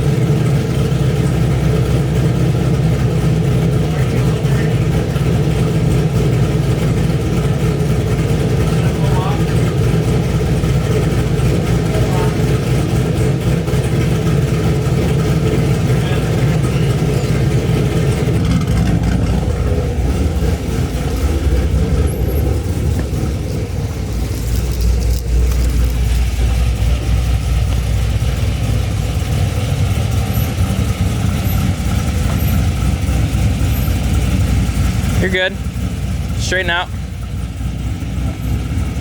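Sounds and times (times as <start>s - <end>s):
car engine low rumble: 0.0s - 39.0s.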